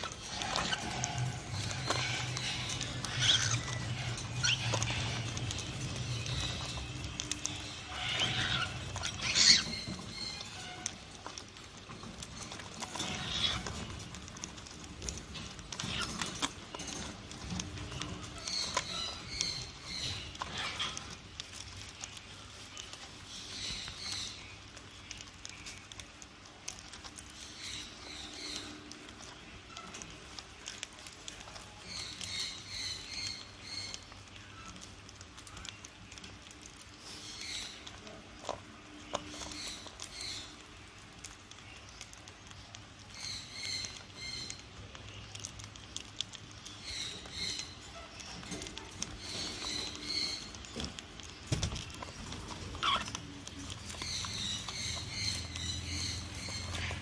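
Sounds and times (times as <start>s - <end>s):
cockatiels chirping: 0.0s - 57.0s.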